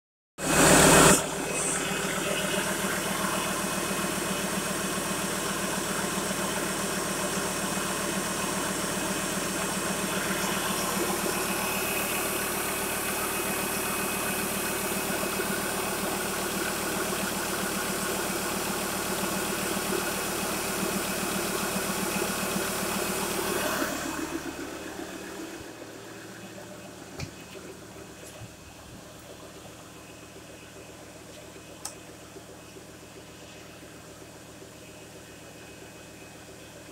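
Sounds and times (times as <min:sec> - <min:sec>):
diesel engine idling: 0:00.4 - 0:36.9.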